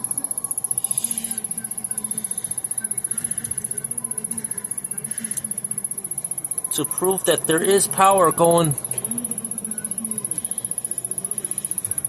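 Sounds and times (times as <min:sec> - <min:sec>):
television power circuit ticking fast: 0:00.0 - 0:12.0.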